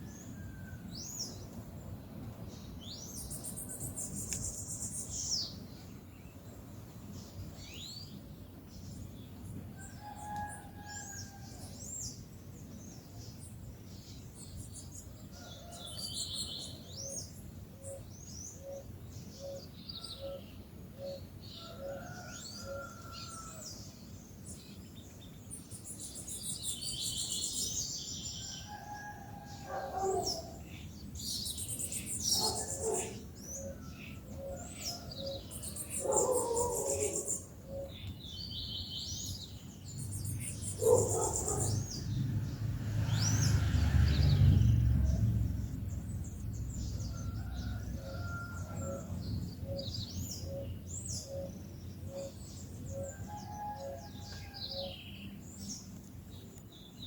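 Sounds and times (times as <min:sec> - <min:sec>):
wild birds chirping and calling: 0:00.0 - 0:57.0.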